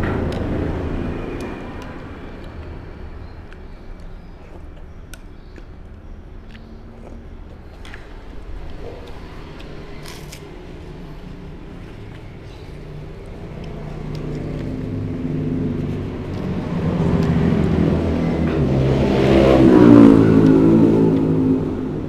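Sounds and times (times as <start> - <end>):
vehicle engine running: 0.0 - 4.6, 7.5 - 22.0.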